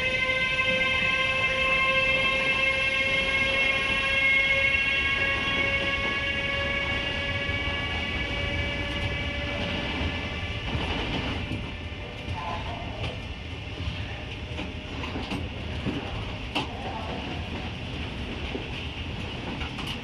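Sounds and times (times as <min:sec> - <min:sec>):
electric locomotive whine: 0:00.0 - 0:20.0.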